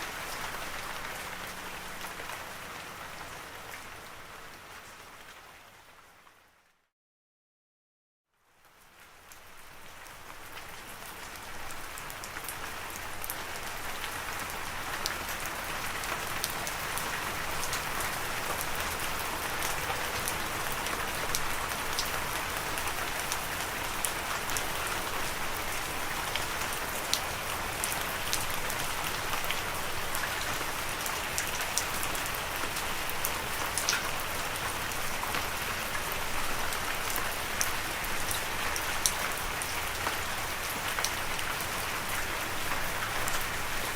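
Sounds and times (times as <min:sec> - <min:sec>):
steady rain falling: 0:00.0 - 0:06.8, 0:08.3 - 0:43.9.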